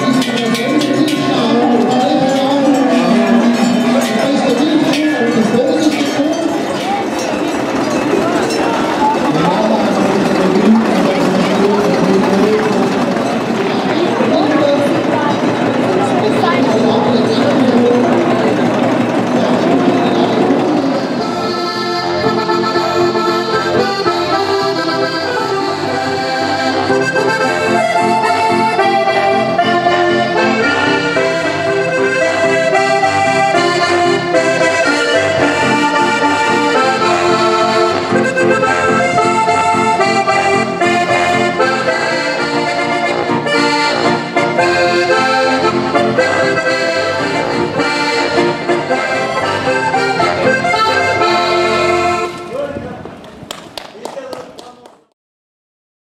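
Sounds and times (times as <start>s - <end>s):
button accordion folk tune: 0.0s - 52.7s.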